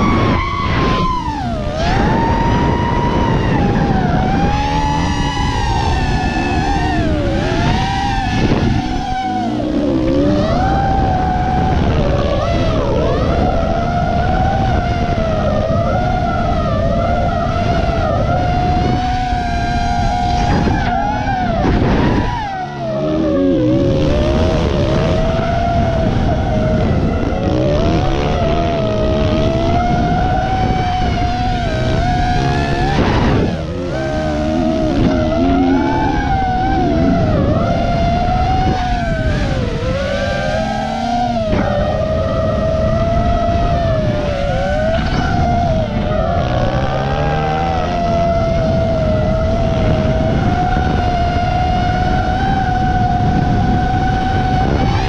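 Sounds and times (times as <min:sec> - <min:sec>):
quadcopter motors whining: 0:00.0 - 0:55.0
wind rush: 0:00.0 - 0:55.0.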